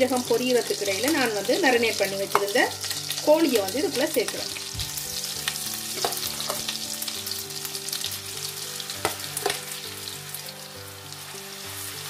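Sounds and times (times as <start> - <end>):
chicken sizzling in butter: 0.0 - 12.0.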